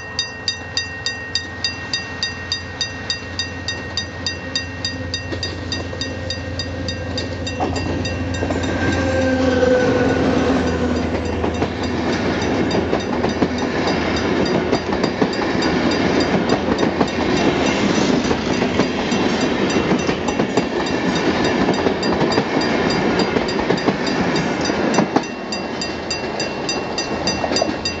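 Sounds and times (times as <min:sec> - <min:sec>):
level crossing warning bell: 0:00.0 - 0:28.0
train engine hum: 0:00.0 - 0:28.0
train wheels rumbling on rails: 0:00.0 - 0:28.0.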